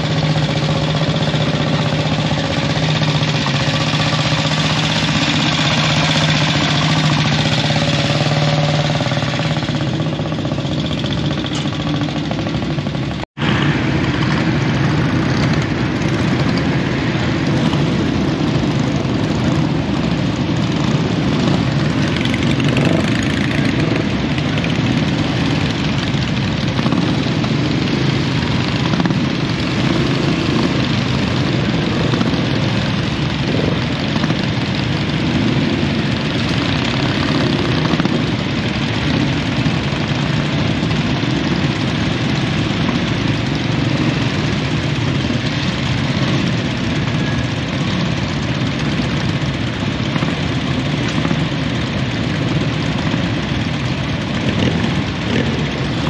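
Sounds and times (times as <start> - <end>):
motorcycle engines idling and revving: 0.0 - 56.0.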